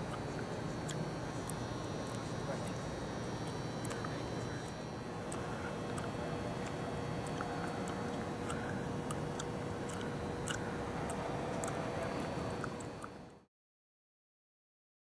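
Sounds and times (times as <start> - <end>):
faint steady tone: 0.0 - 13.5
hum and hiss of empty stadium: 0.0 - 13.5.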